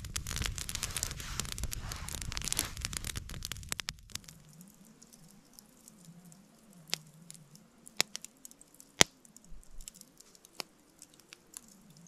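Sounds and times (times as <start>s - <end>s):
sharp pops of fire: 0.0s - 6.2s, 6.8s - 11.8s
campfire embers crackling: 0.0s - 12.0s.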